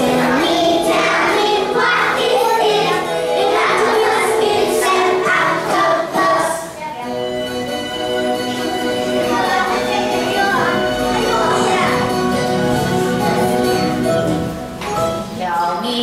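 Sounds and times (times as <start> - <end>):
children singing: 0.0 - 6.8, 8.1 - 14.6
recorded backing music: 0.0 - 16.0.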